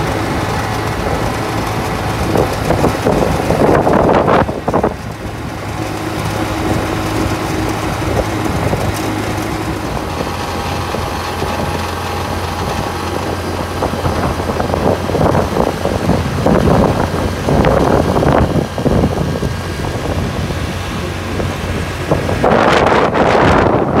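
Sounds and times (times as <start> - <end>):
road noise: 0.0 - 24.0
vehicle engine hum: 0.0 - 24.0
wind buffeting microphone: 0.0 - 24.0.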